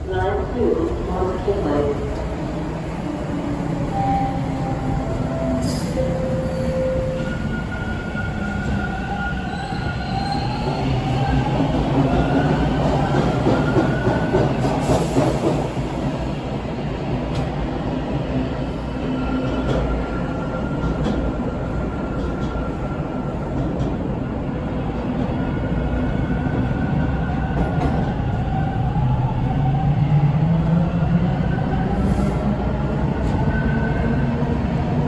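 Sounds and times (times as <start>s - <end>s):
subway car rumbling and rattling: 0.0s - 35.0s.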